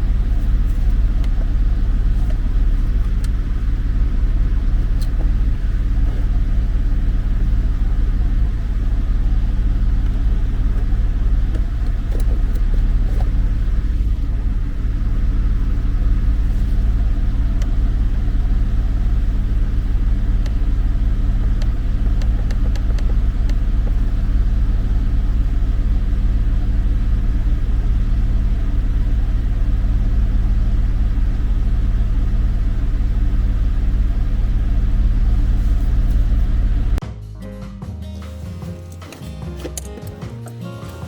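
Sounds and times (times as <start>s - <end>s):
car engine humming steadily: 0.0s - 37.0s, 38.5s - 41.0s.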